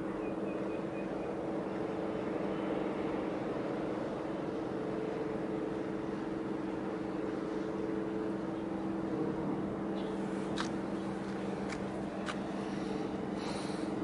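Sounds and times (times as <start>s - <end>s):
ship engine drone: 0.0s - 14.0s.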